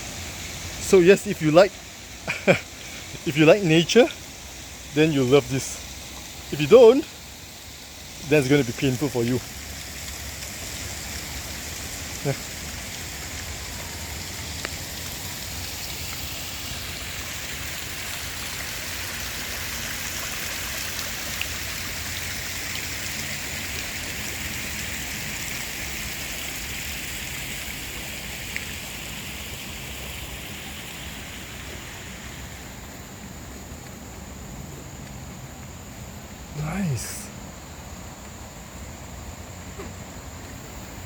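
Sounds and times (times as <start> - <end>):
insects chorus: 0.0 - 41.0.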